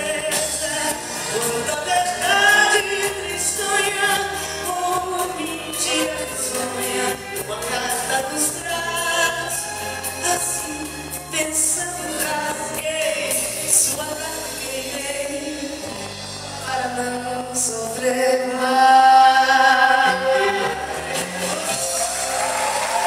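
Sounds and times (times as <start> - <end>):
person singing: 0.0 - 23.0
steady bass line: 0.0 - 23.0.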